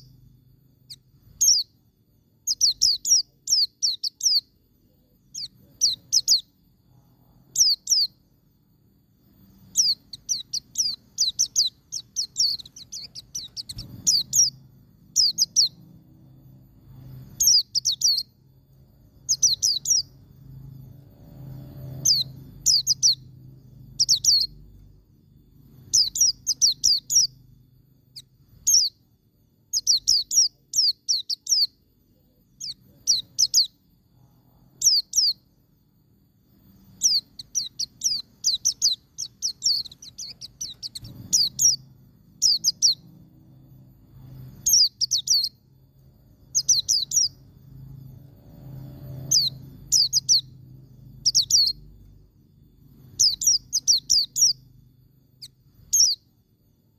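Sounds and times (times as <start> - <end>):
bird singing high chirps: 0.0 - 35.7, 36.5 - 56.9.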